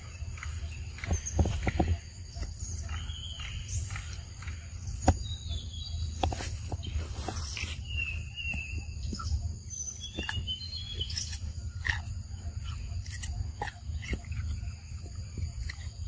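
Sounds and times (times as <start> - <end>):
monkey chewing crunches: 0.0 - 16.0.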